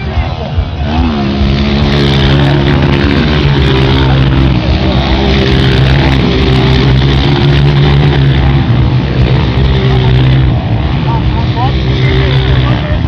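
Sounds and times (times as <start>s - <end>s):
dirt bike engine running hard: 0.0s - 13.0s.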